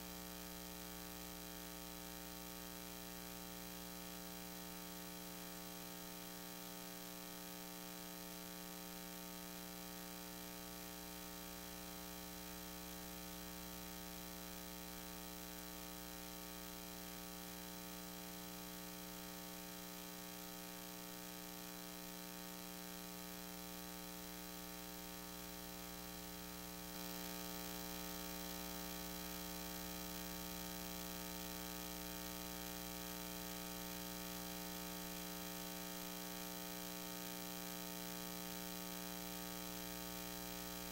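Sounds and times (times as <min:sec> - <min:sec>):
electrical mains hum and hiss: 0:00.0 - 0:40.9.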